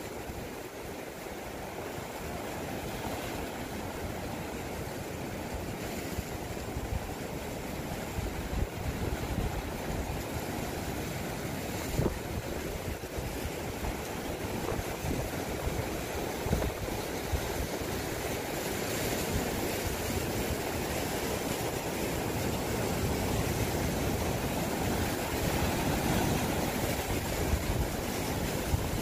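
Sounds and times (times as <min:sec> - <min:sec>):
surf breaking over rocks: 0:00.0 - 0:29.0.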